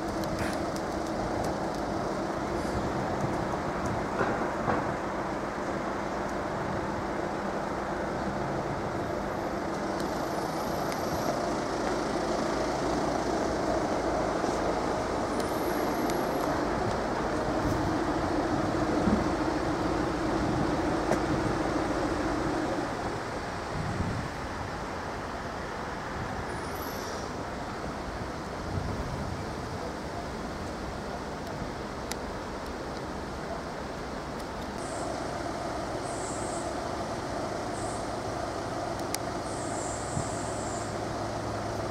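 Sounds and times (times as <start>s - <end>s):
electric train rumbling: 0.0s - 41.9s.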